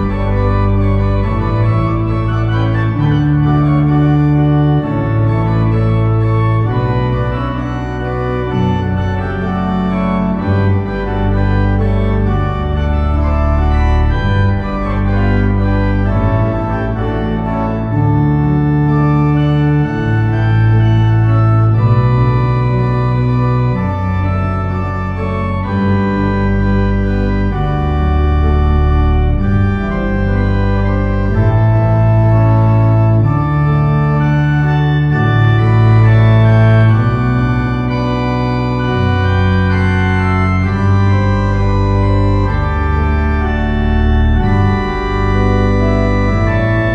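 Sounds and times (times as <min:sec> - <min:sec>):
deep bass line: 0:00.0 - 0:46.9
organ playing sustained chords: 0:00.0 - 0:46.9.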